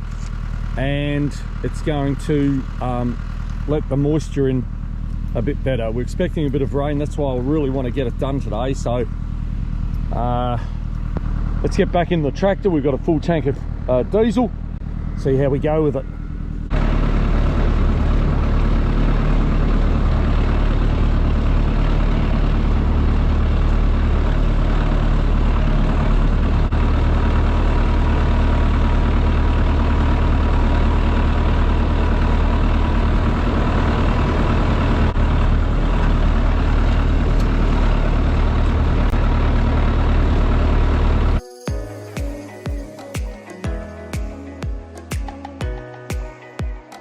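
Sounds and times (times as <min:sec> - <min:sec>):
tractor engine droning: 0:00.0 - 0:46.0.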